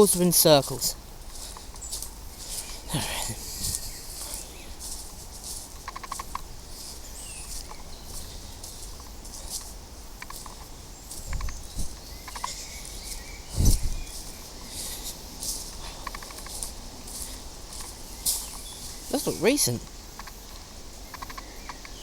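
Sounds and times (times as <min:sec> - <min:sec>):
birds calling: 0:00.0 - 0:22.0
steady outdoor hiss: 0:00.0 - 0:22.0.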